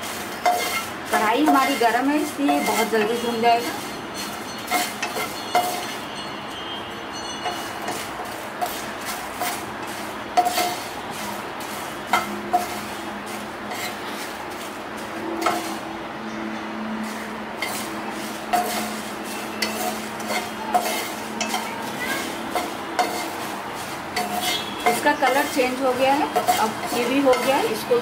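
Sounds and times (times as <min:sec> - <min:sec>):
chillies sizzling hiss: 0:00.0 - 0:06.1, 0:07.5 - 0:16.1, 0:17.0 - 0:28.0
wooden spatula scraping frying pan: 0:00.0 - 0:06.1, 0:07.4 - 0:15.9, 0:17.0 - 0:28.0.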